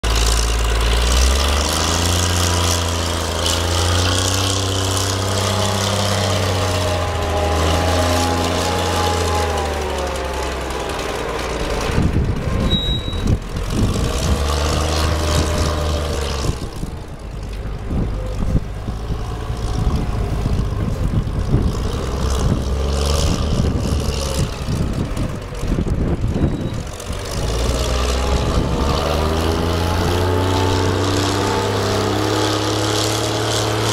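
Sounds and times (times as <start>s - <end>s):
engine running: 0.0s - 33.9s
rough rumble and crackle: 0.0s - 33.9s.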